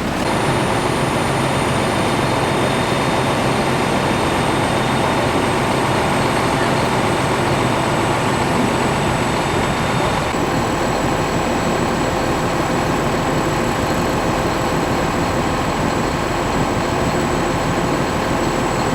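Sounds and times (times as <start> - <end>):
diesel engines idling: 0.0 - 18.9.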